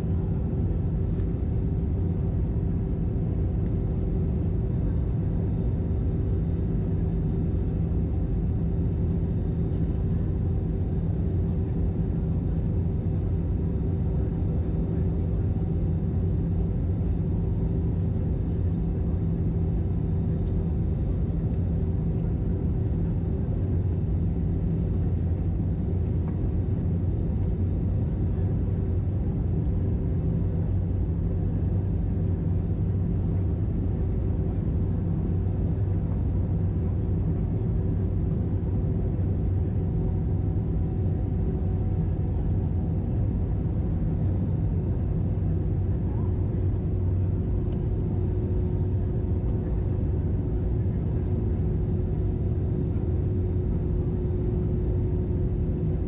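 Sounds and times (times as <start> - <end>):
airplane cabin drone: 0.0 - 56.0
constant hum tones: 0.0 - 56.0.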